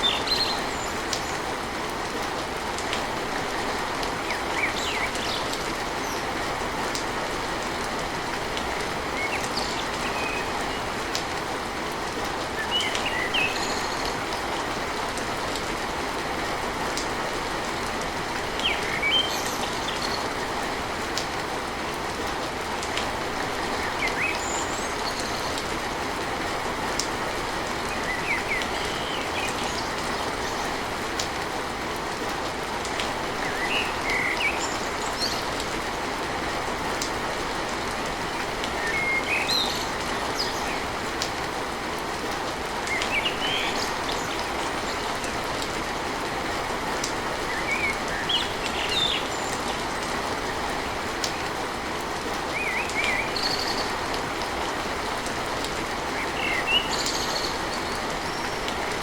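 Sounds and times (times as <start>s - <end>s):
heavy rain on a tin roof: 0.0s - 59.0s.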